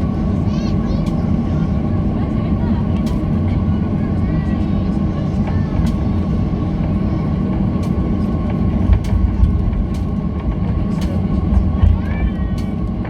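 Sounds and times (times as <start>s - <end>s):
jet engines whining near idle: 0.0s - 13.0s
low rumble of engines and wheels: 0.0s - 13.0s.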